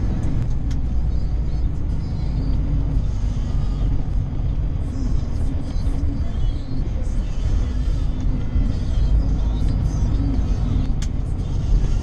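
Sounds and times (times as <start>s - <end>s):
faint radio music: 0.0s - 12.0s
truck road and engine rumble: 0.0s - 12.0s.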